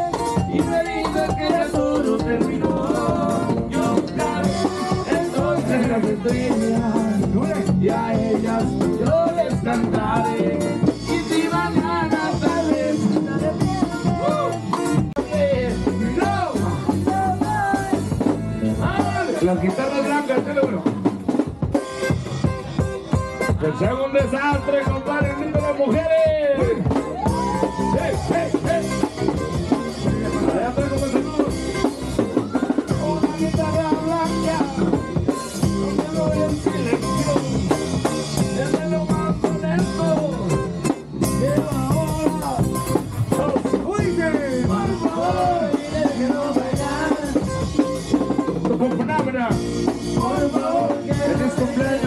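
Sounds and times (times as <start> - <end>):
accordion melody: 0.0 - 52.0
drum kit with rimshots: 0.0 - 52.0
guitar: 0.0 - 52.0.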